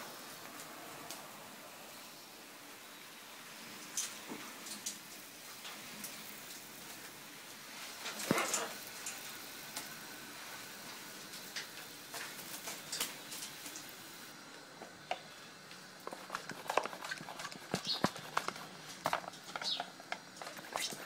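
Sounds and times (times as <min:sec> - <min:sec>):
water spray hissing: 0:00.0 - 0:21.0.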